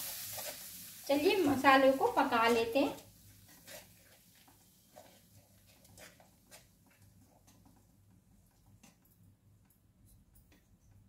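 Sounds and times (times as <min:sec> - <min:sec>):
spices popping in hot oil: 0:00.0 - 0:11.0.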